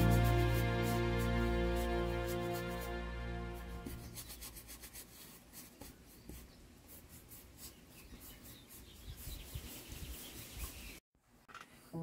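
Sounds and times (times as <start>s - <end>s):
paintbrush scratching on canvas: 0.0s - 9.9s.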